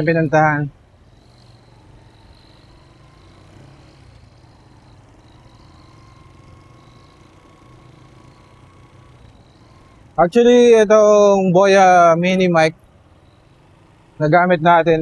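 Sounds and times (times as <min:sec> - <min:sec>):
motorcycle engine running: 0:00.0 - 0:15.0
thin high steady tone: 0:00.0 - 0:15.0.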